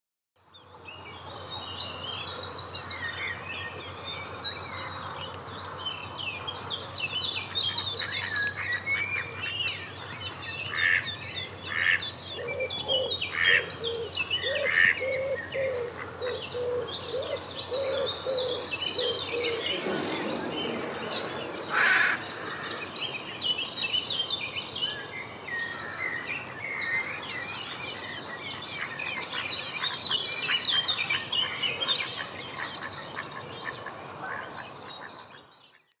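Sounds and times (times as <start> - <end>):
songbirds trilling: 0.5 - 35.9.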